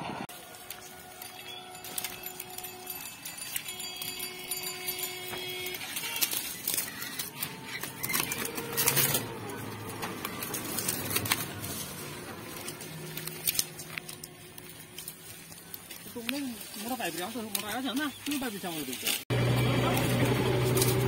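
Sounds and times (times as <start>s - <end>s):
dry sticks rustling and clattering: 0.3s - 21.0s.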